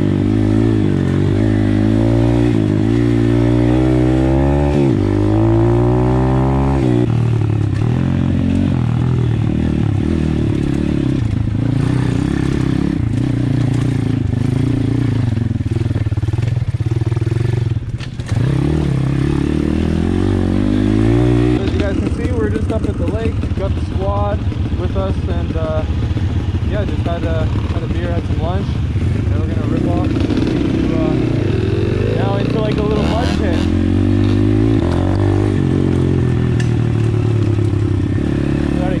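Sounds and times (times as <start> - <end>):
motorbike engine revving: 0.0 - 39.0.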